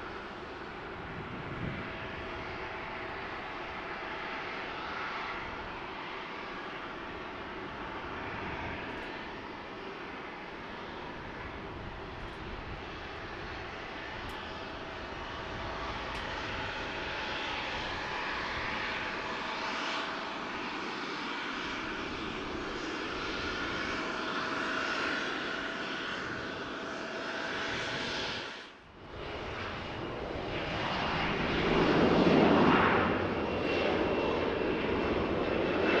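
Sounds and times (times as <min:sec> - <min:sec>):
faint engine whine: 0:00.0 - 0:36.0
jet engines running: 0:00.0 - 0:36.0.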